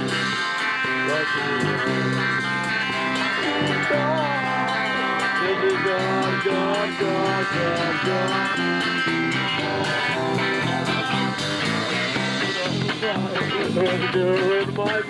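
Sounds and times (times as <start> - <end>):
bass guitar: 0.0 - 15.0
drums with cymbals: 0.0 - 15.0
loud electric guitar: 0.0 - 15.0.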